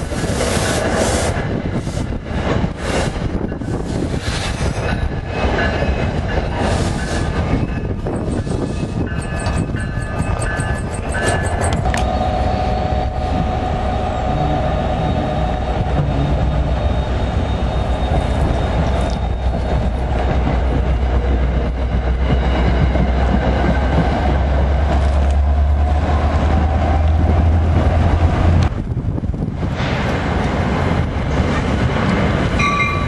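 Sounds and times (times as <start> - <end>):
train coaches passing at speed: 0.0 - 33.0.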